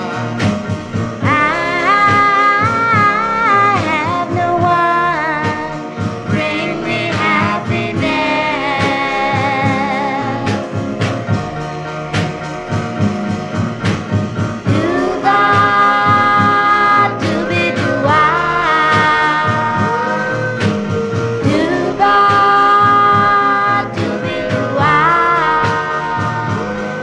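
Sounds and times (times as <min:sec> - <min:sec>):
soul song with full band: 0:00.0 - 0:27.0.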